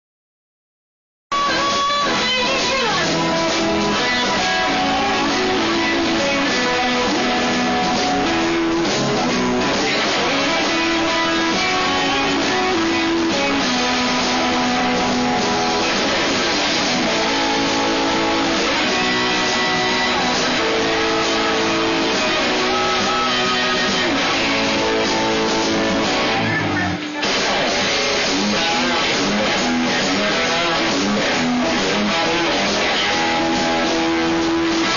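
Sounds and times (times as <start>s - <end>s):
blues band playing: 1.3s - 34.9s
electric guitar lines: 1.3s - 34.9s.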